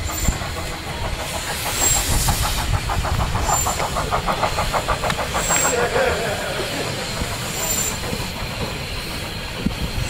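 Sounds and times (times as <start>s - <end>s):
steam hissing: 0.0s - 10.0s
steam locomotive pulsing: 0.0s - 10.0s.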